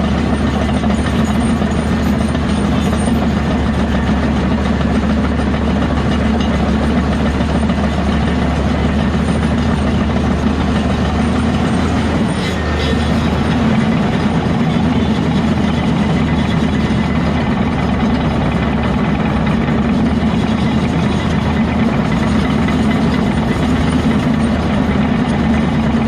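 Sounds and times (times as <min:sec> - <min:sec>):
heavy earthmoving machinery running: 0:00.0 - 0:26.0.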